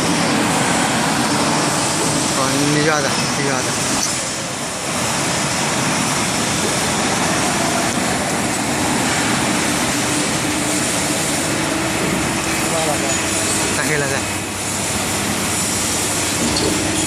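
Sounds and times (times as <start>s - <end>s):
press brake machine running: 0.0s - 17.0s.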